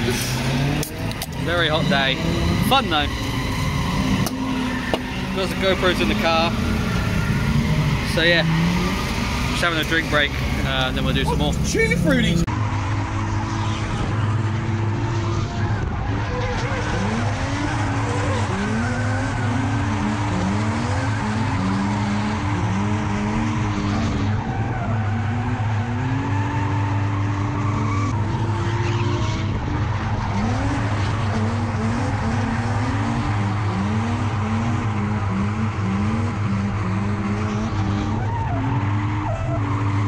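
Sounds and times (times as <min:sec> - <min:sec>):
car engines revving: 0:00.0 - 0:40.0
tyres skidding: 0:00.0 - 0:40.0.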